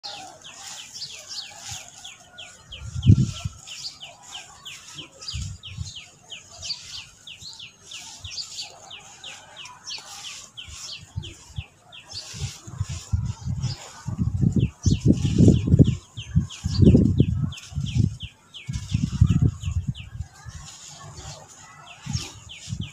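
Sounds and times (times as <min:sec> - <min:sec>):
bird chirping rapidly: 0:00.0 - 0:22.9.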